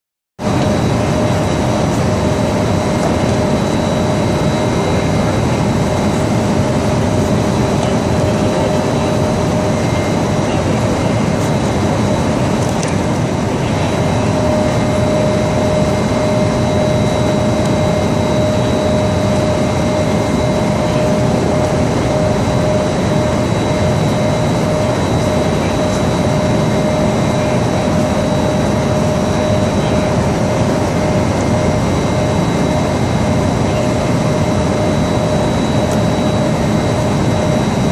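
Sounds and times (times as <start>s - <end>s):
hum and whine: 0.4s - 37.9s.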